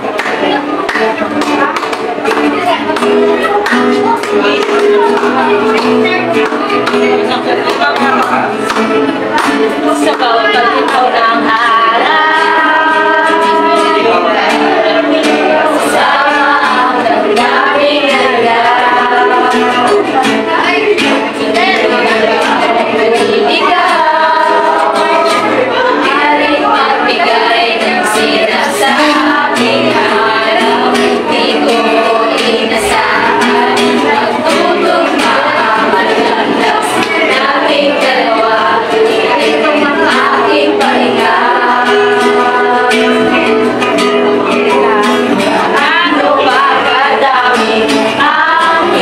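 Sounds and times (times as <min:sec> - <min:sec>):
group of voices singing: 0:00.0 - 0:49.0
strummed acoustic guitar: 0:00.0 - 0:49.0.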